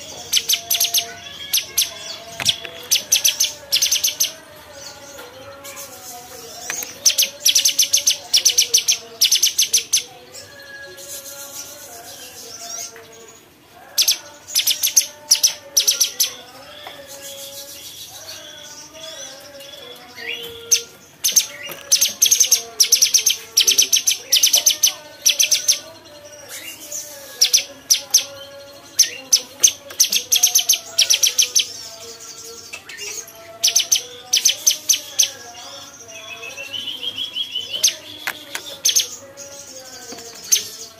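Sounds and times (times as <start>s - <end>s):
soft warbling chatter: 0.0s - 40.9s.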